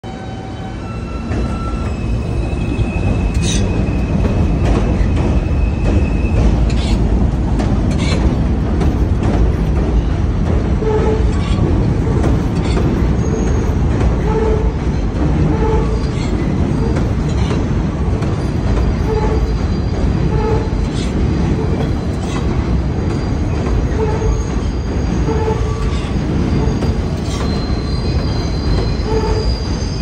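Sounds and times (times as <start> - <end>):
subway train rumbling: 0.0 - 30.0
wheels clanking on rail joints: 0.4 - 30.0.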